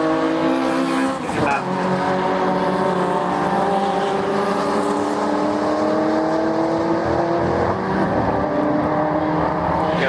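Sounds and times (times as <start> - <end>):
racing car engine accelerating: 0.0 - 10.0.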